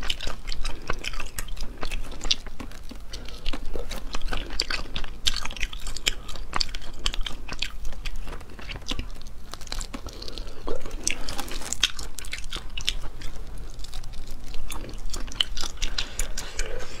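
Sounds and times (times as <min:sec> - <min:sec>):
chewing and crunching: 0:00.0 - 0:17.0
shells crackling being peeled: 0:00.0 - 0:17.0.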